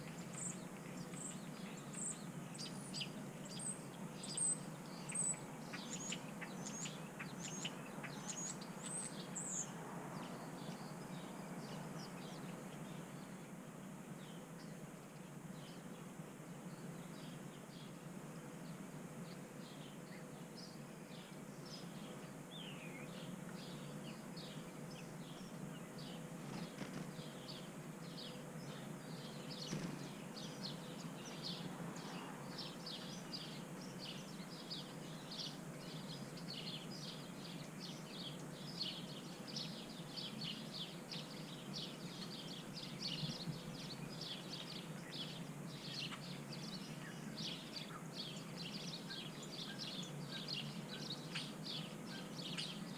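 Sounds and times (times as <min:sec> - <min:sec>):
faint steady hum: 0:00.0 - 0:52.9
small birds chirping: 0:00.0 - 0:52.9.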